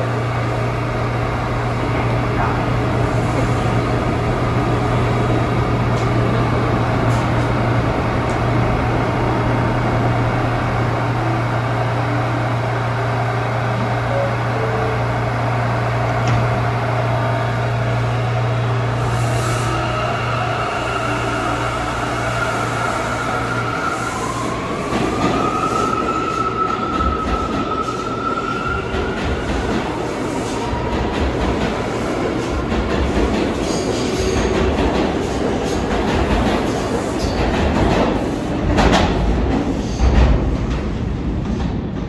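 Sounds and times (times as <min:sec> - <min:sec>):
subway train rumbling: 0:00.0 - 0:42.0.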